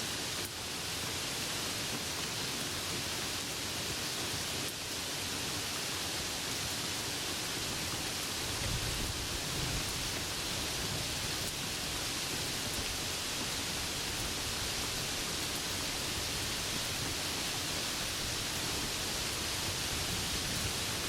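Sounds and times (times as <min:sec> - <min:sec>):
heavy rain falling: 0:00.1 - 0:21.0.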